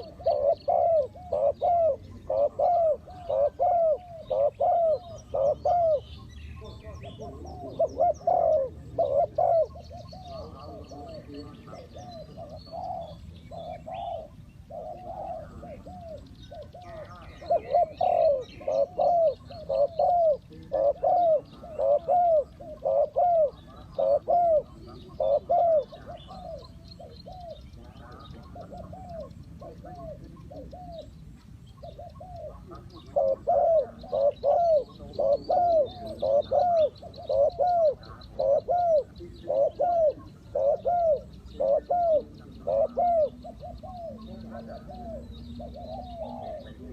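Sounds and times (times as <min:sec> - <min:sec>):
dove cooing: 0:00.0 - 0:46.9
small birds chirping: 0:00.0 - 0:46.9.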